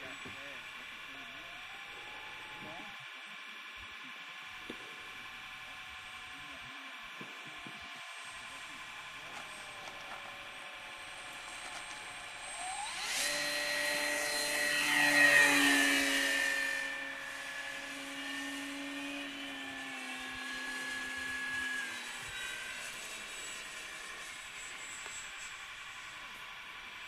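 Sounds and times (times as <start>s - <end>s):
model plane motor whining: 0.0s - 27.0s.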